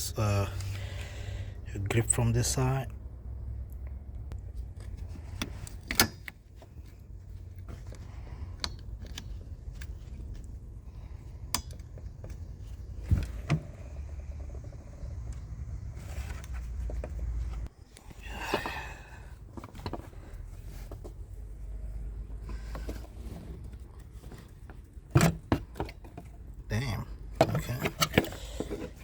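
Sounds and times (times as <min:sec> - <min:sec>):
steady low rumble: 0:00.0 - 0:24.2.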